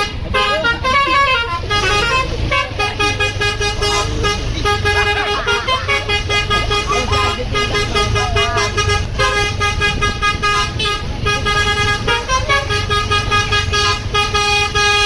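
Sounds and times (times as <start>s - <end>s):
bus engine rumble: 0.0s - 15.0s
musical bus horn playing tune: 0.0s - 15.0s.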